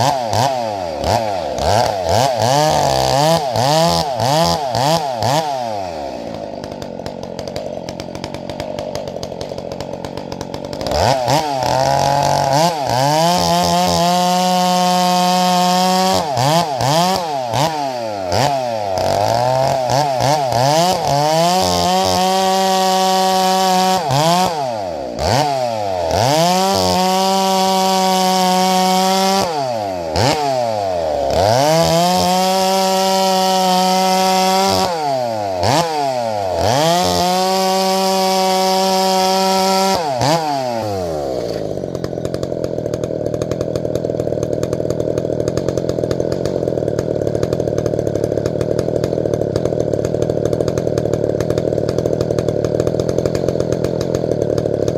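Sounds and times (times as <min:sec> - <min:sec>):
chainsaw idling and revving: 0:00.0 - 0:54.9.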